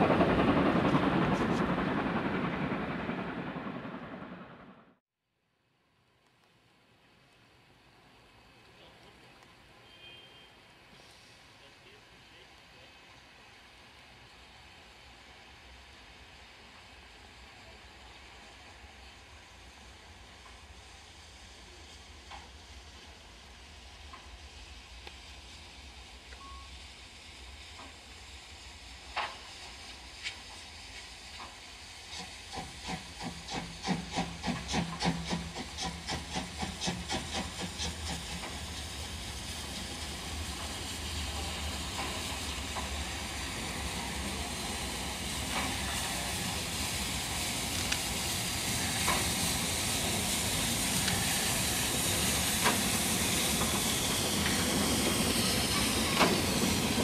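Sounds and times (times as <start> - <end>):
steam hiss and running noise: 7.6 - 57.0
steam locomotive exhaust beats: 10.9 - 57.0.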